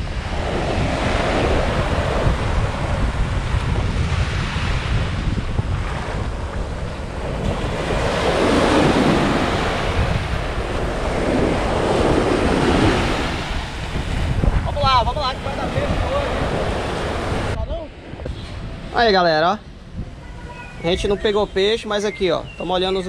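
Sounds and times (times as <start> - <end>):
ocean waves breaking on beach: 0.0 - 21.9
wind buffeting microphone: 0.0 - 23.0.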